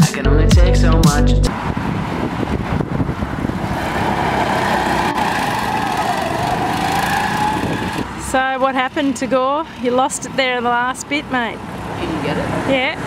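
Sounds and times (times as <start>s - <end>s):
go-kart engine passing: 1.5s - 13.0s.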